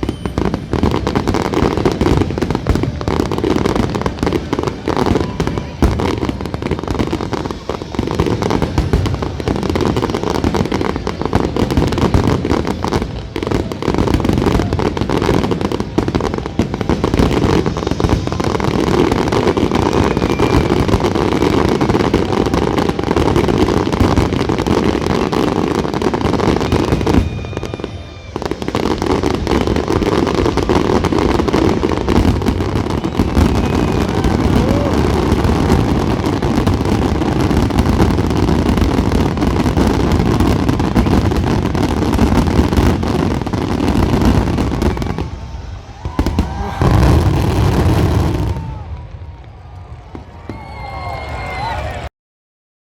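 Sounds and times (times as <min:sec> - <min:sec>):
fireworks crackling and banging: 0:00.0 - 0:52.1.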